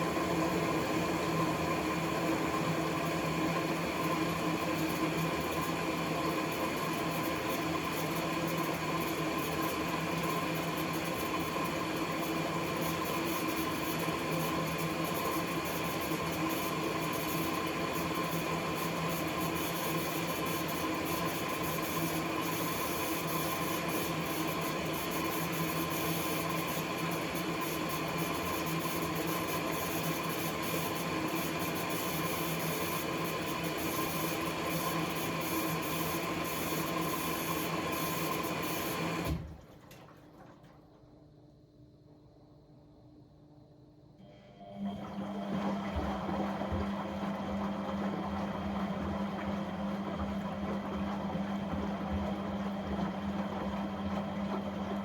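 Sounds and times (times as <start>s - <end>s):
dishwasher pump humming: 0.0s - 41.4s, 44.3s - 55.0s.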